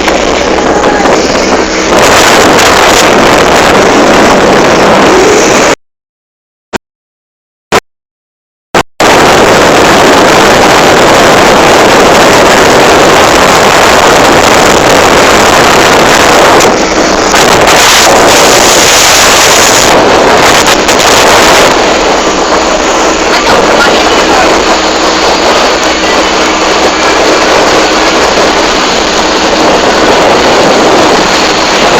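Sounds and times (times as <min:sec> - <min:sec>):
speedboat engine running: 0:00.0 - 0:05.8, 0:09.0 - 0:31.9
wind rushing over microphone: 0:00.0 - 0:05.8, 0:09.0 - 0:31.9.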